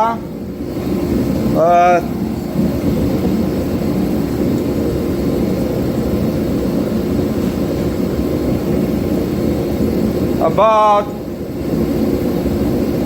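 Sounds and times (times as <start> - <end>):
gas forge burner roaring: 0.0 - 13.0.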